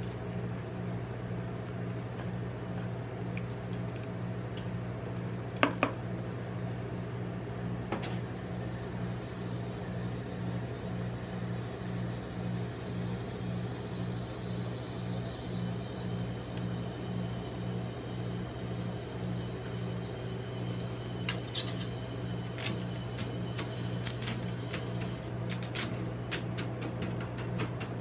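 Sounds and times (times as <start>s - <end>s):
ice cream machine humming: 0.0s - 28.0s.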